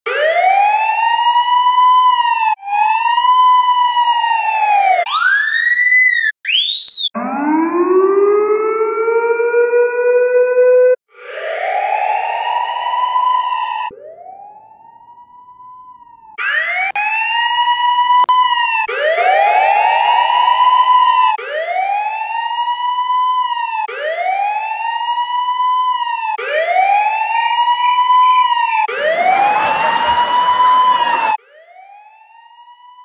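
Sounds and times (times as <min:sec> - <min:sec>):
police siren wail: 0:00.1 - 0:33.0.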